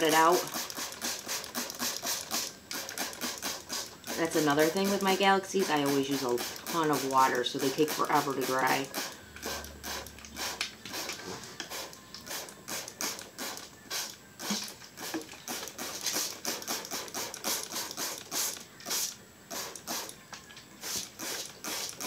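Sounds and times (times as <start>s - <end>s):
hiss of water spray: 0.0s - 20.2s, 20.8s - 22.0s.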